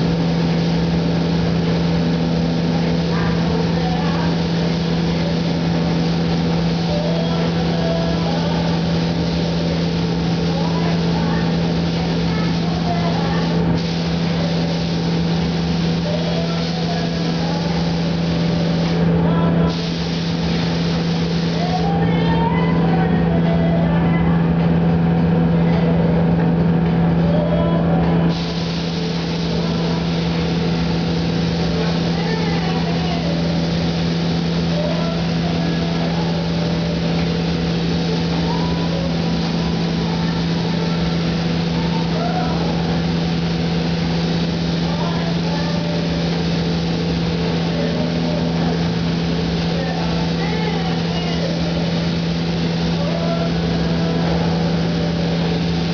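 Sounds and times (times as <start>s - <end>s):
spray gun air hiss: 0.0s - 22.0s, 28.2s - 55.9s
paint booth air flow hum: 0.0s - 55.9s.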